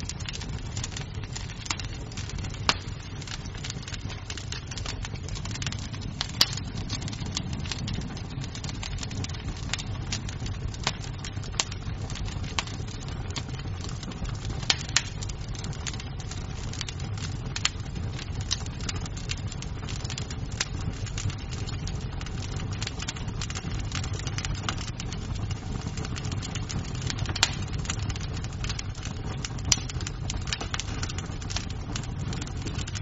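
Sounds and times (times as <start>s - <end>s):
low steady rumble: 0.0s - 33.0s
wood fire crackling and popping: 0.0s - 33.0s.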